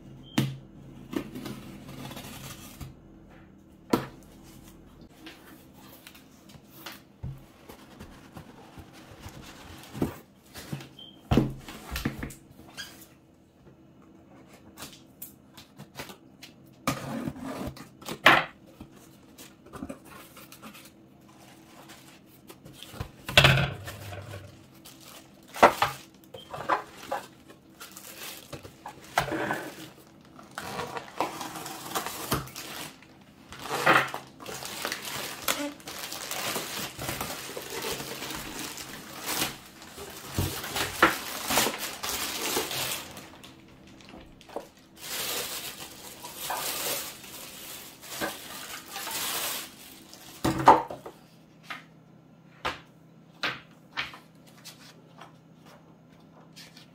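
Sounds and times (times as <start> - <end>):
plastic wrap rustling: 1.2 - 3.0, 4.1 - 13.1, 15.7 - 51.2.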